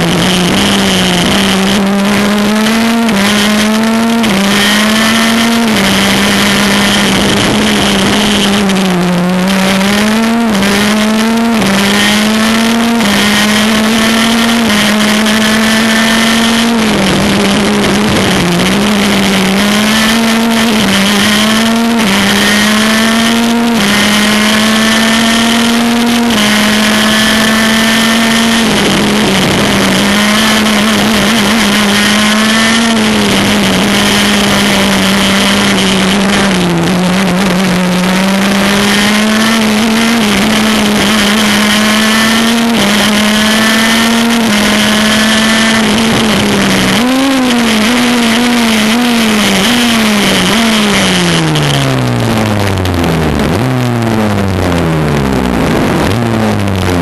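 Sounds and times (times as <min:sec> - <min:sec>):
kart engine revving through gears: 0:00.0 - 0:57.0.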